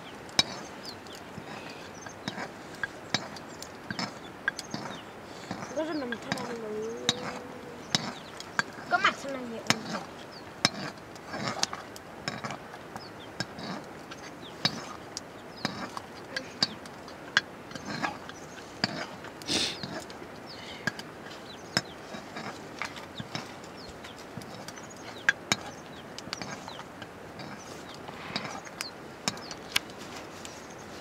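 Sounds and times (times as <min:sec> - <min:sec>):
firewood crackling: 0:00.0 - 0:31.0.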